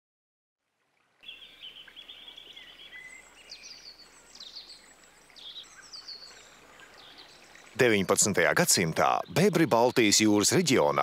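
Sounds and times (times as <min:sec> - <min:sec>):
wild birds singing: 0:01.2 - 0:11.0.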